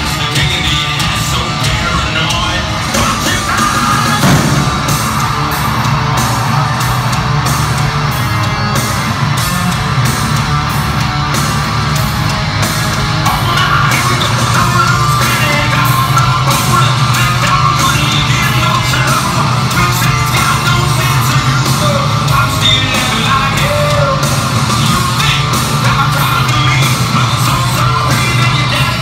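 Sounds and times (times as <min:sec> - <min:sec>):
crowd yelling: 0:00.0 - 0:29.0
hard rock band playing live: 0:00.0 - 0:29.0.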